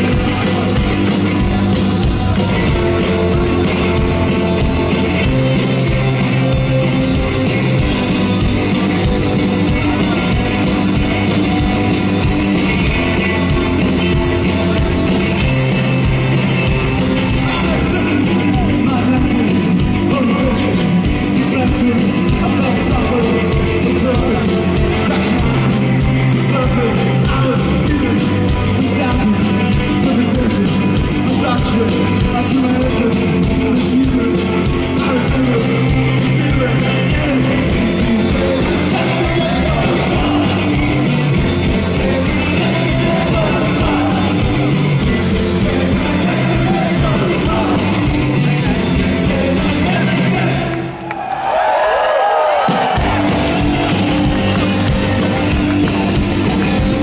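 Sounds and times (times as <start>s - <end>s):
man singing: 0.0s - 51.0s
live rock band playing: 0.0s - 57.0s.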